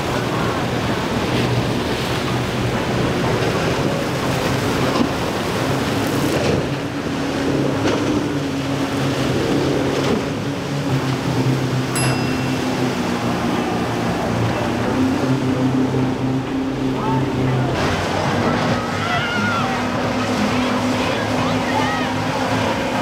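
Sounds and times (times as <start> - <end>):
outboard motors droning: 0.0 - 23.0
waves breaking and spray: 0.0 - 23.0.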